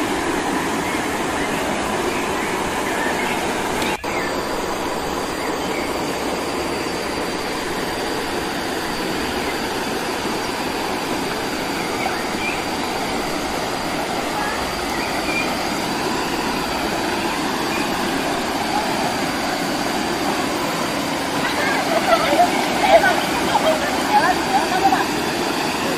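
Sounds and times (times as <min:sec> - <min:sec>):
waterfall and stream rushing: 0:00.0 - 0:25.9.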